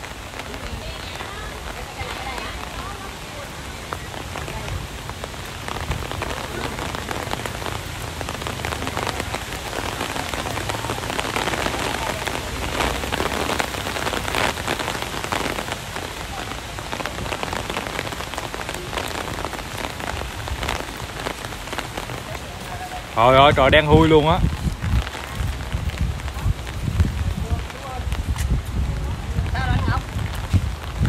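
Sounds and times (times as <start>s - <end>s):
gusty wind on microphone: 0.0s - 22.1s, 22.9s - 31.0s
rain pattering: 0.0s - 31.0s.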